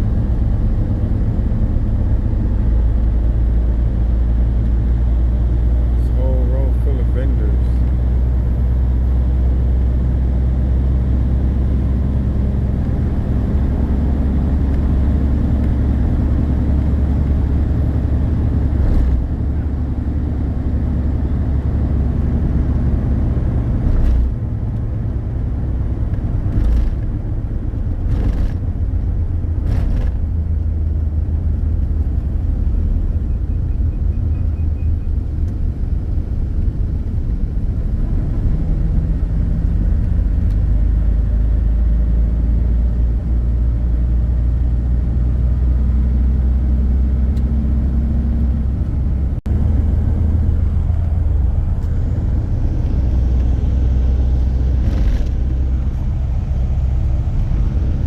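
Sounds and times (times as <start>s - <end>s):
road vehicle rumbling: 0.0s - 58.0s.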